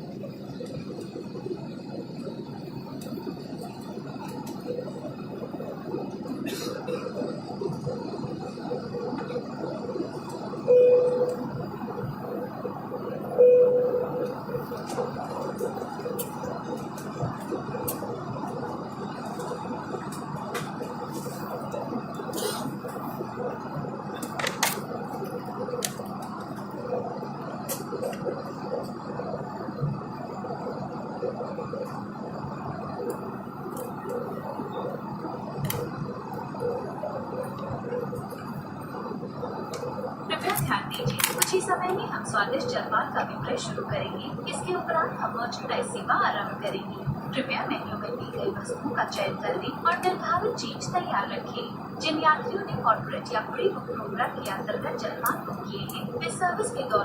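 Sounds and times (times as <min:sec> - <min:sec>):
jet cabin noise: 0:00.0 - 0:57.0.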